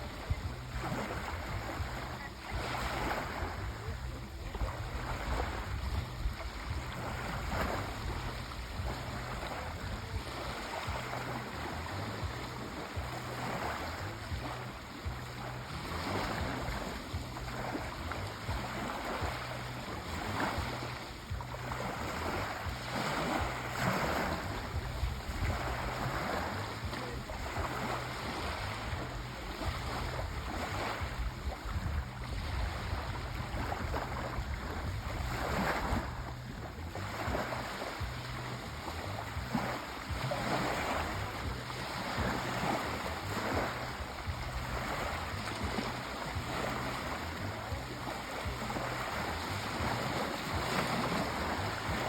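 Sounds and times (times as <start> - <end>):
sea waves washing in: 0.0 - 52.0.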